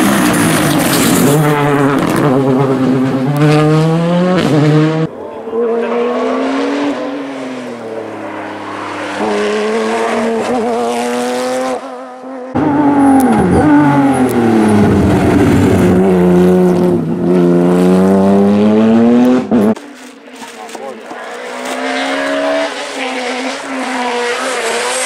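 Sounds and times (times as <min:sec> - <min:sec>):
louder engine: 0:00.0 - 0:19.8, 0:20.4 - 0:25.0
rally car engine revving: 0:00.0 - 0:25.0.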